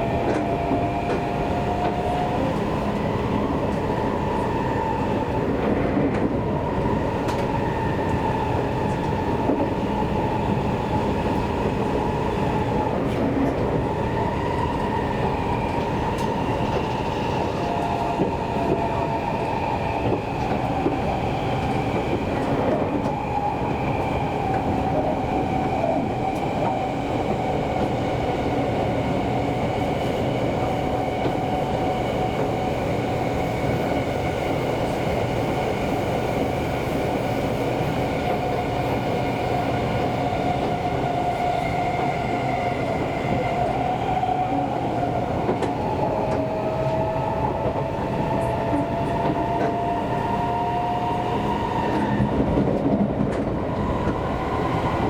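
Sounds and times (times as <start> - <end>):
train wheels rumbling on track: 0.0 - 55.0
train whine: 0.0 - 55.0.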